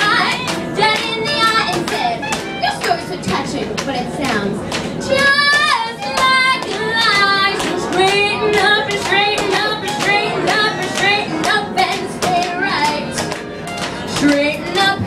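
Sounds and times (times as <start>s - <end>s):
girl singing into a microphone: 0.0s - 13.2s, 14.0s - 15.0s
swing band accompaniment: 0.0s - 15.0s.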